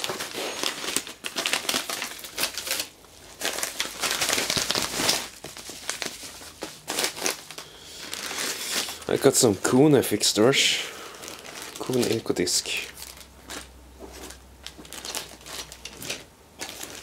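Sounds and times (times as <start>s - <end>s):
envelope and plastic bags crinkling: 0.0s - 17.0s.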